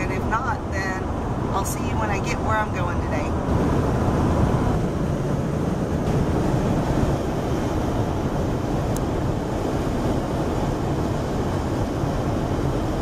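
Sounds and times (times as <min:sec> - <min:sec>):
road and wind noise in vehicle: 0:00.0 - 0:13.0.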